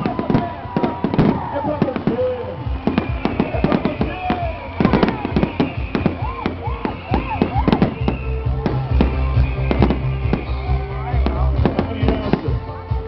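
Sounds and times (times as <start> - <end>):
firework whistling: 0.0 - 12.4
fireworks cracking and banging: 0.0 - 12.7
music with heavy bass: 0.0 - 13.0.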